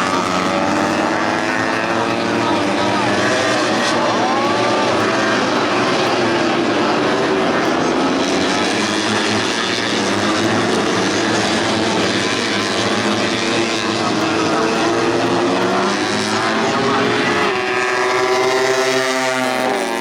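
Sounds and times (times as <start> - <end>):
motorcycle engines droning: 0.0 - 20.0
motorcycle passing by: 0.0 - 20.0.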